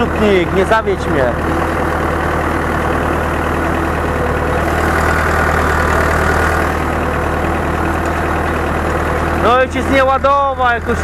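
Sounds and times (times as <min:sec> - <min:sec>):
manure spreader throwing manure: 0:00.0 - 0:11.0
tractor diesel engine running: 0:00.0 - 0:11.0.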